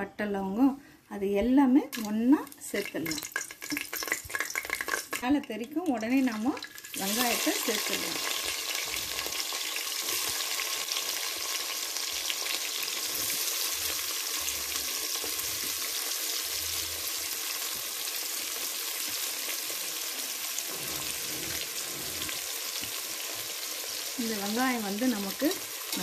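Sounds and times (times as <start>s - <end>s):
onions sizzling in hot oil: 1.9s - 26.0s.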